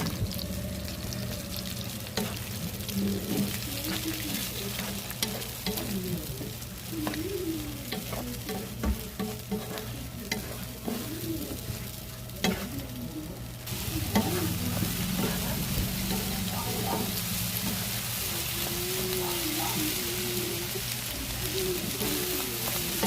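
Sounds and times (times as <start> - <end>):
food frying in a pan: 0.0 - 23.0.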